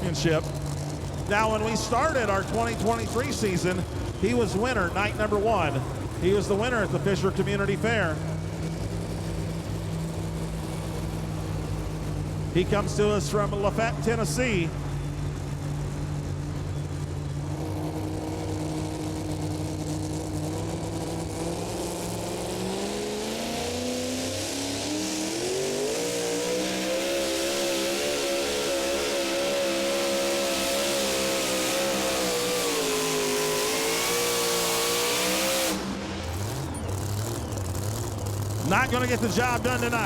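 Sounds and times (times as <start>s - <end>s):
truck engine running hard: 0.0s - 40.0s.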